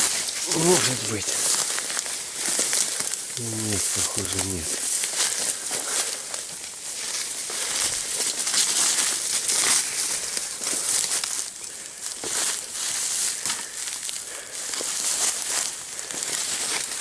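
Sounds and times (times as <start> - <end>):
rustling of brush and dry leaves: 0.0 - 17.0.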